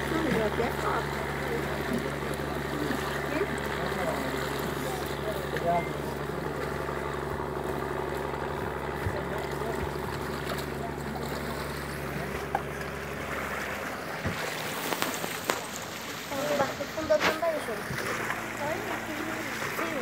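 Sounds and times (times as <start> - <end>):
boat diesel engine throbbing: 0.0 - 20.0
propeller churning water: 0.0 - 20.0.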